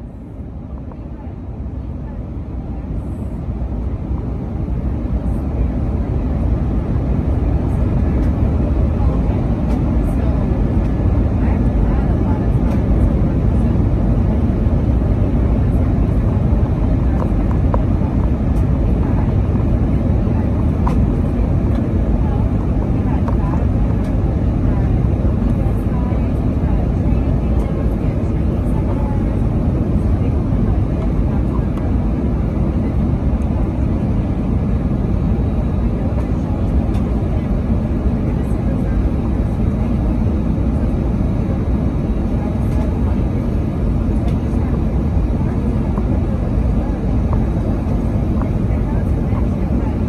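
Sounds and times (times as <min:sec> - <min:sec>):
jet engine rumble in cabin: 0:00.0 - 0:50.0.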